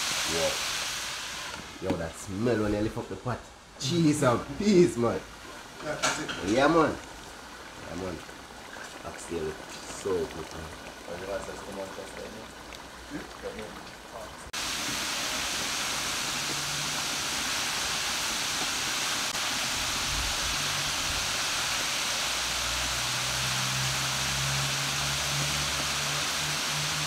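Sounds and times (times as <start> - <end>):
chicken sizzling in hot oil: 0.0 - 2.4, 3.8 - 27.0.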